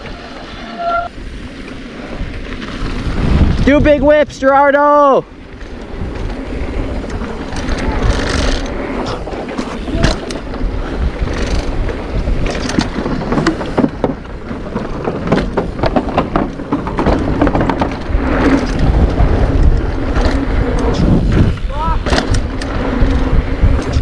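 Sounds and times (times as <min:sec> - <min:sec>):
bike rattling over bumps: 0:00.0 - 0:24.0
wind and tyres on dirt: 0:00.0 - 0:24.0.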